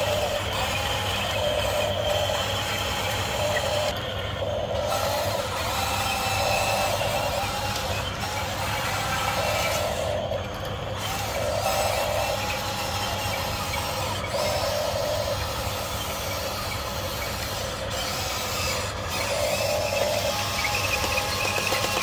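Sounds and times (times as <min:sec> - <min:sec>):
steady low hum: 0:00.0 - 0:22.0
toy gear motors whining: 0:00.0 - 0:22.0.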